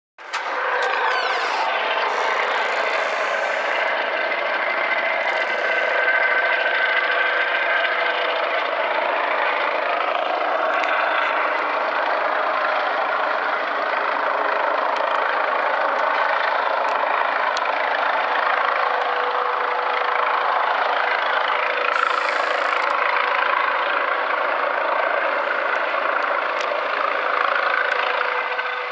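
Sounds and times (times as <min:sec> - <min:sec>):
distant helicopter hovering: 0:00.2 - 0:28.9.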